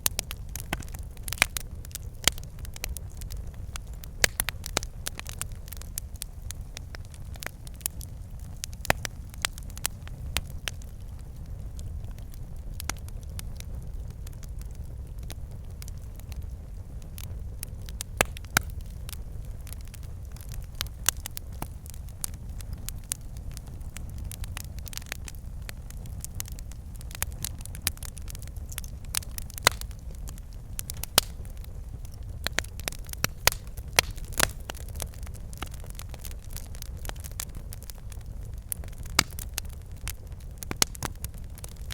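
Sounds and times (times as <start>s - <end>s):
low rumble of flames: 0.0s - 41.9s
sharp fire pops: 0.0s - 41.9s
wood fire crackling: 0.0s - 41.9s.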